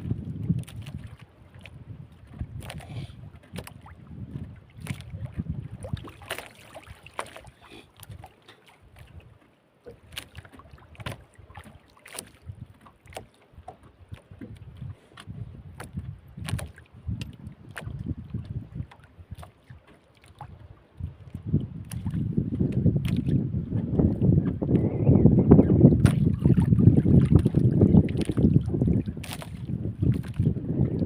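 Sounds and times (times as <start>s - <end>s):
wind buffeting microphone: 0.0s - 8.3s, 10.7s - 31.0s.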